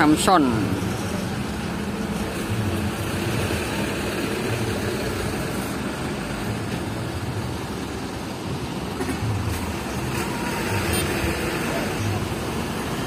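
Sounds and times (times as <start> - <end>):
diesel truck engines running: 0.0 - 13.0
motorbikes: 0.0 - 13.0.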